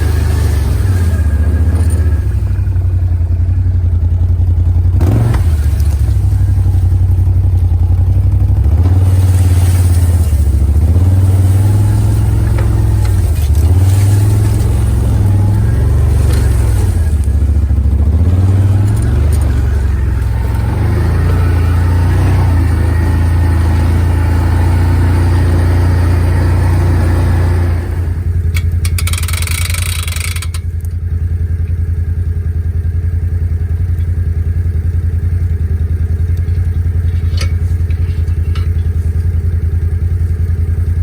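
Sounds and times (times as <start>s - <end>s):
atv engine running under load: 0.0s - 41.0s.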